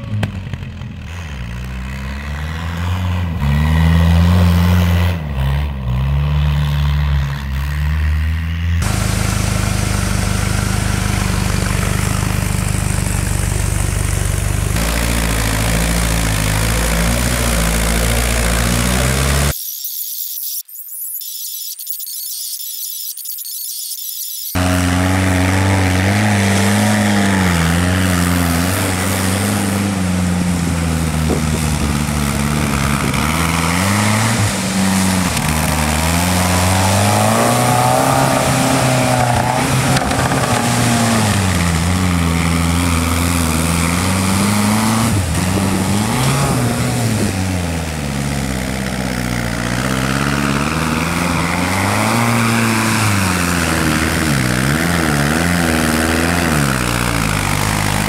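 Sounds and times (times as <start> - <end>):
jeep engine revving: 0.0 - 19.6, 24.6 - 58.0.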